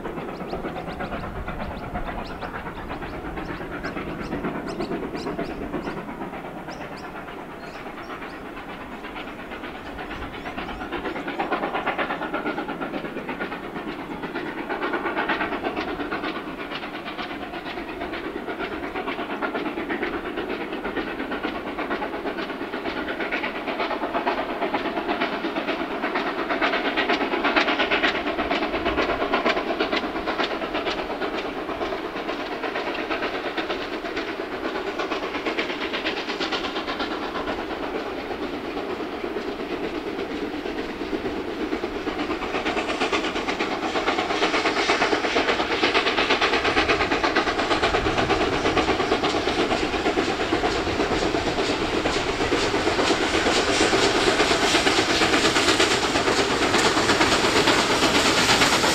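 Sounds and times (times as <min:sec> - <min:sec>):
steam hiss: 0:00.0 - 0:58.9
steam locomotive exhaust beat: 0:00.0 - 0:58.9
train rumble: 0:00.0 - 0:58.9.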